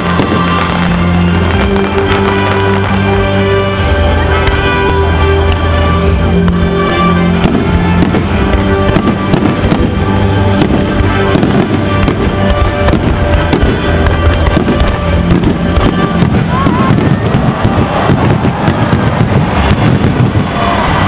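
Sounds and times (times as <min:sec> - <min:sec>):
fireworks bursting: 0:00.0 - 0:21.0
music playing: 0:00.0 - 0:21.0.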